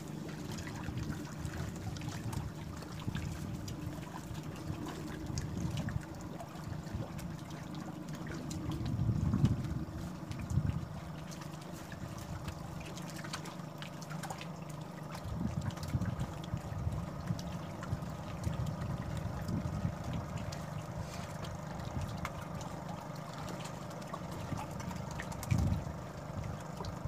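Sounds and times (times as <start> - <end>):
water slapping against platform: 0.0 - 27.0.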